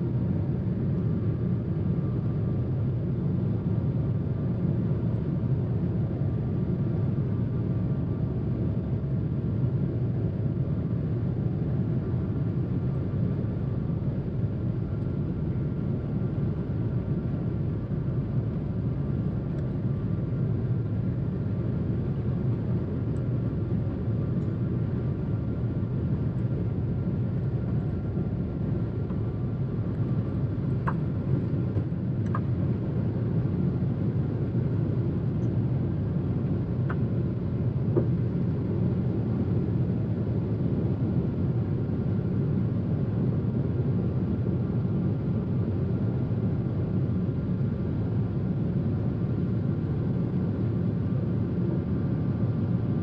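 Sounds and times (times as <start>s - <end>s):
airliner cabin engine rumble: 0.0s - 53.0s
faint steady whine: 0.0s - 53.0s.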